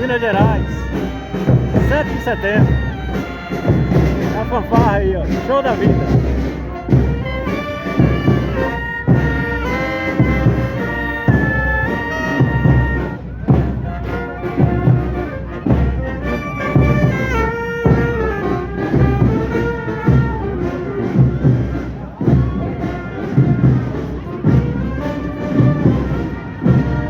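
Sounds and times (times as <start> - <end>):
brass melody: 0.0 - 27.0
marching drums beat: 0.0 - 27.0.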